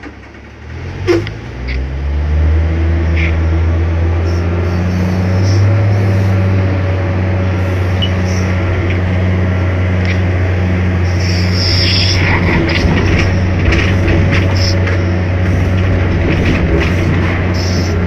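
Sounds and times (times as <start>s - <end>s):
excavator diesel engine drone: 0.0s - 18.0s.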